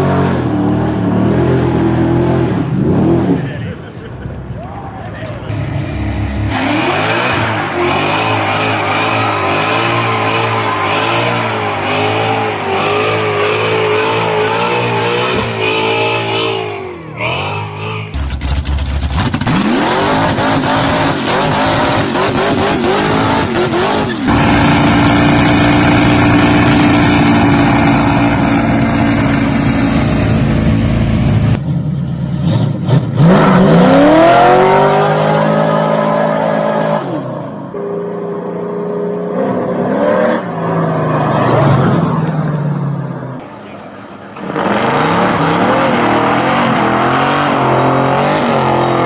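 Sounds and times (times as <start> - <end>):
car engines idling and revving: 0.0 - 49.0.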